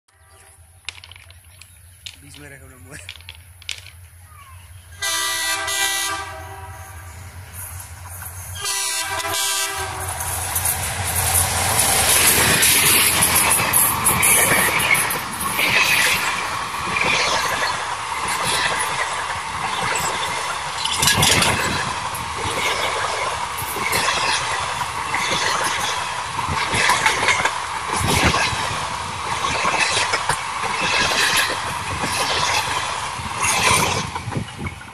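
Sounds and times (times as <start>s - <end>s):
train coaches passing: 0.1s - 34.9s
wheels clacking over rail joints: 0.2s - 6.4s, 7.4s - 34.9s.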